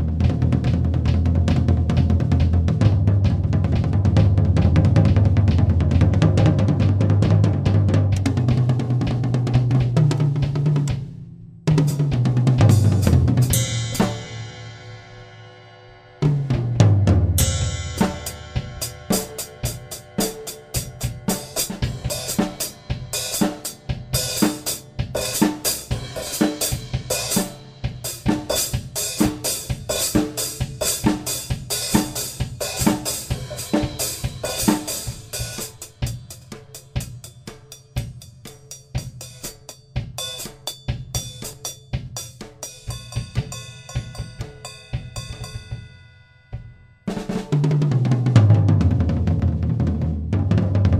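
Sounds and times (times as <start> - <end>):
drum kit playing: 0.0 - 50.9.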